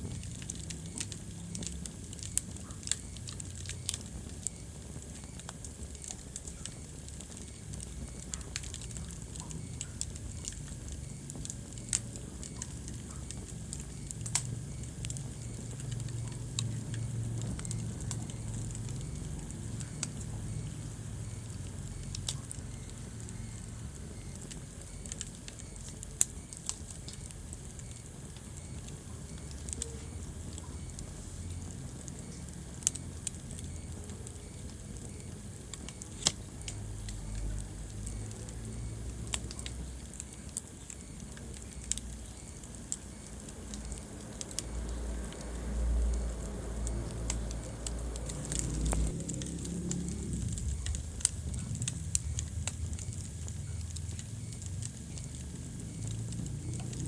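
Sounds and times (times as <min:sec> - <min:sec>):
low rumble of flame: 0:00.0 - 0:57.0
wood fire crackling and popping: 0:00.0 - 0:57.0.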